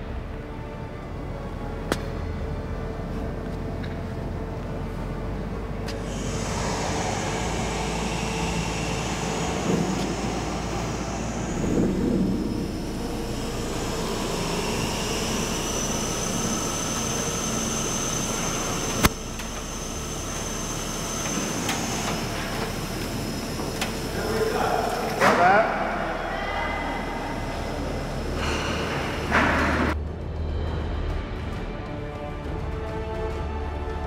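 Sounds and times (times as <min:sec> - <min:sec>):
heavy machinery whining: 0:00.0 - 0:30.0.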